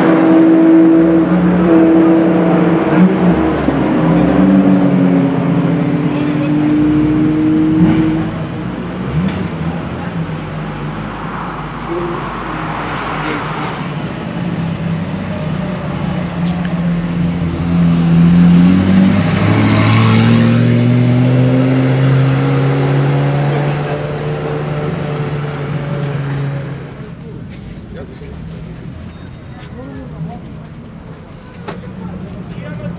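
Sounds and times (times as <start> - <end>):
sports car driving past: 0.0 - 27.3.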